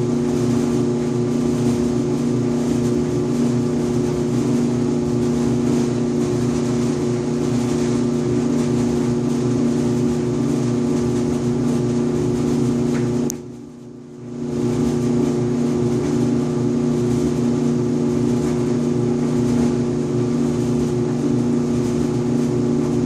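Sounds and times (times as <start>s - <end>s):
clothes dryer buzzing hum: 0.0s - 23.0s.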